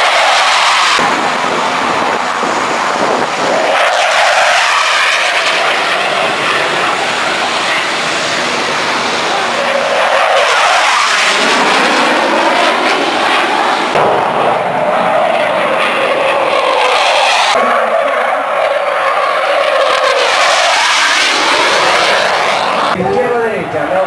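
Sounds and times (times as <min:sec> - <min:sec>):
jet fighters roaring past: 0:00.0 - 0:24.0.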